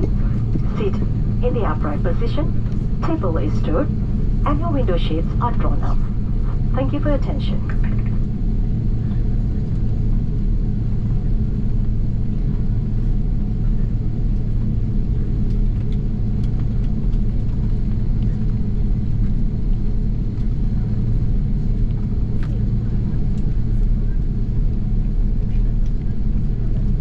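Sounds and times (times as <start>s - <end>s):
constant hum: 0.0s - 27.0s
idling jet engines rumbling: 0.0s - 27.0s.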